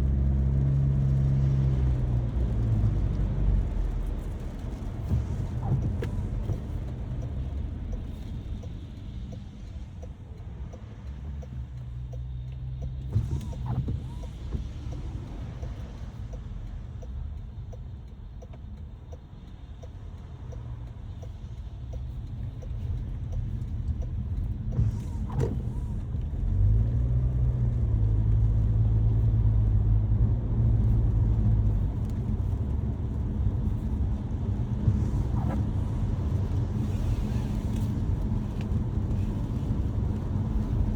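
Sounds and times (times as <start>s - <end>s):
car engine and road rumble: 0.0s - 40.9s.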